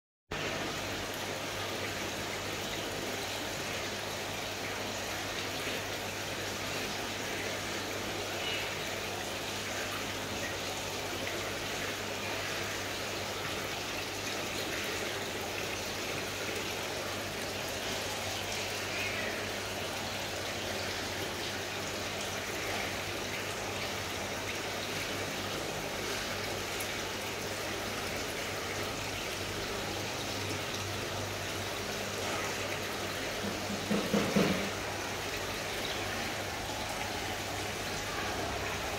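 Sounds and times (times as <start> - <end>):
water trickling and splashing: 0.3 - 38.9.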